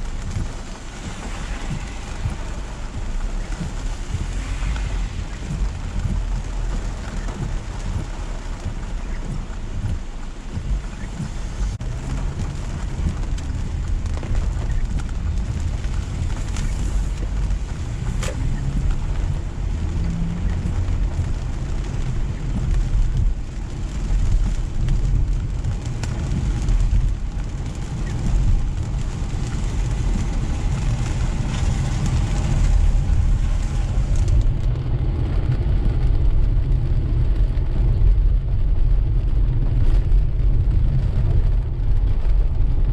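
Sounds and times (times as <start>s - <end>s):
tyres hissing on wet pavement: 0.0s - 36.8s
rain on car: 0.0s - 42.9s
road and engine rumble: 0.0s - 42.9s.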